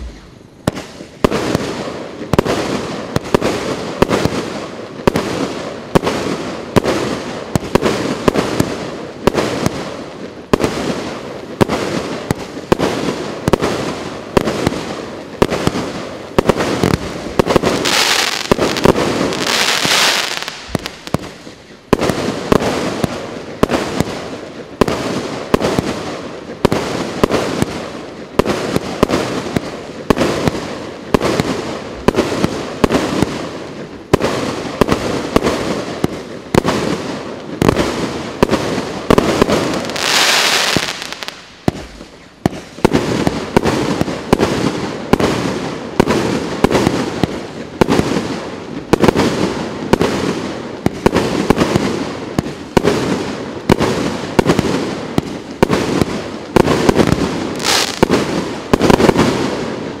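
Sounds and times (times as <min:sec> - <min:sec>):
firework bangs with crackle: 0:00.0 - 1:00.0.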